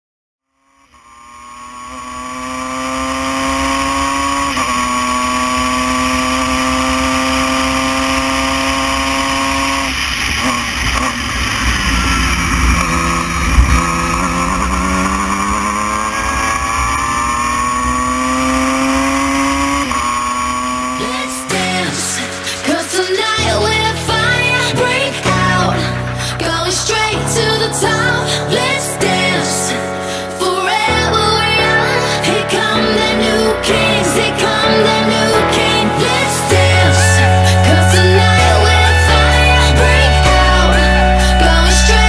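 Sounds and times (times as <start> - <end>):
race car engine at speed: 0.5 - 42.0.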